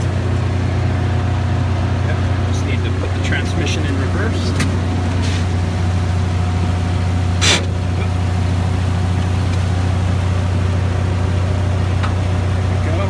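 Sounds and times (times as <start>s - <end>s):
truck engine at fast idle: 0.0s - 13.0s.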